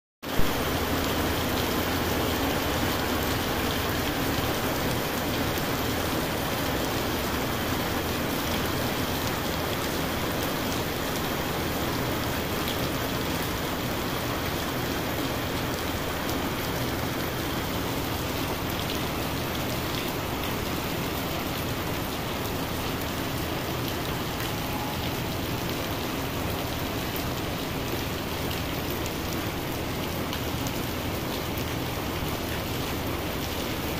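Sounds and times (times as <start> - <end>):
heavy rain on pavement: 0.2 - 33.9.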